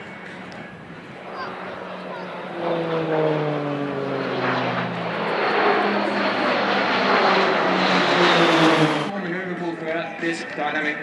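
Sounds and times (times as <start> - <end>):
rushing engine and airflow noise: 0.0 - 9.2
propeller aircraft flying past: 0.0 - 11.0.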